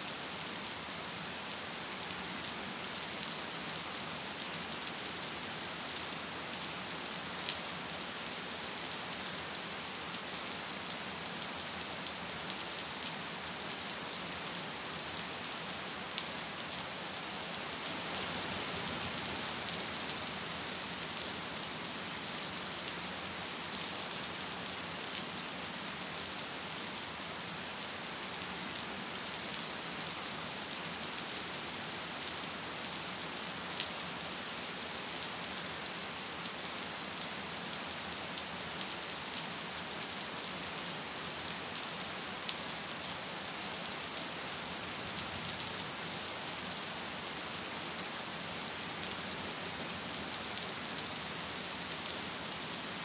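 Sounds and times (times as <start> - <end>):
gentle rain hiss: 0.0 - 53.0.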